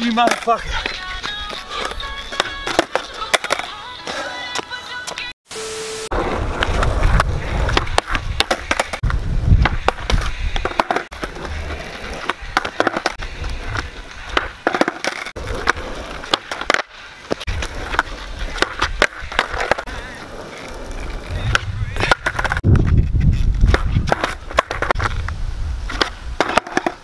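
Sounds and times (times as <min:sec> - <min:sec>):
skateboard deck clacking on asphalt: 0:00.0 - 0:05.3, 0:06.6 - 0:27.0
skateboard wheels rolling: 0:00.0 - 0:05.3, 0:06.2 - 0:27.0.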